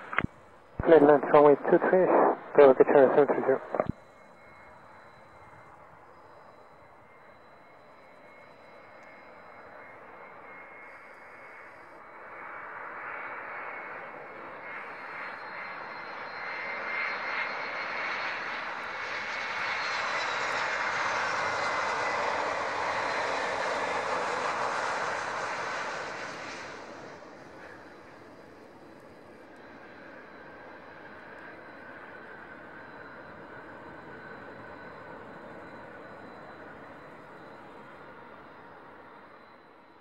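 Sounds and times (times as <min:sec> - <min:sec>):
jet airliner passing: 0:00.0 - 0:40.0.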